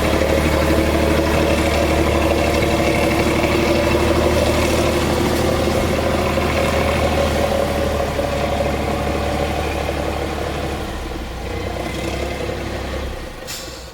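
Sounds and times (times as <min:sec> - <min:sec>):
engine running steadily: 0:00.0 - 0:13.9.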